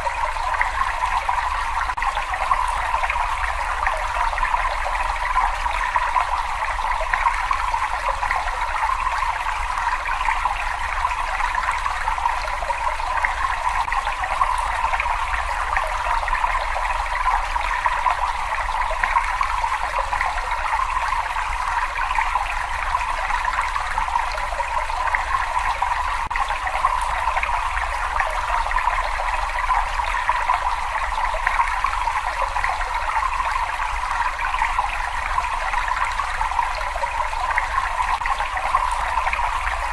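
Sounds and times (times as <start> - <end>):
running trickling water: 0.0 - 39.9.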